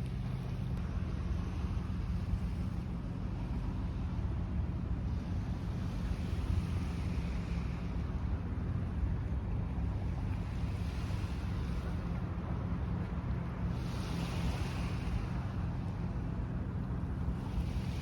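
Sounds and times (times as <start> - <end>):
faint surf: 0.0 - 18.0
low hum: 0.0 - 18.0
wind rumbling on microphone: 0.0 - 18.0.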